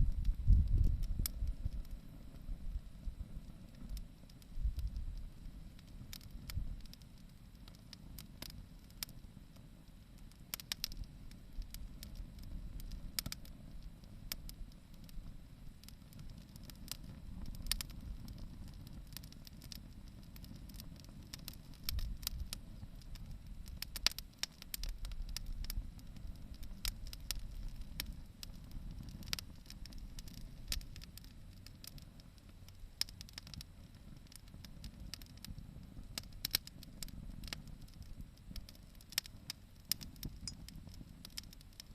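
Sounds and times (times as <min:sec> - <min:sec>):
bonfire crackling and popping: 0:00.0 - 0:41.9
low steady rumble: 0:00.0 - 0:41.9.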